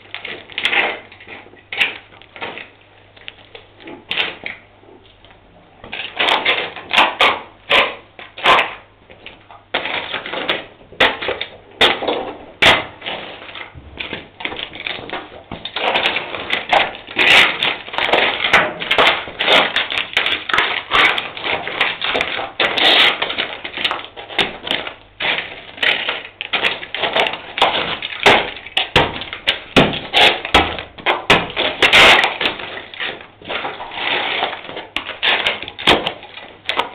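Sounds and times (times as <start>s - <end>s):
plastic crunching underfoot: 0.0s - 36.9s.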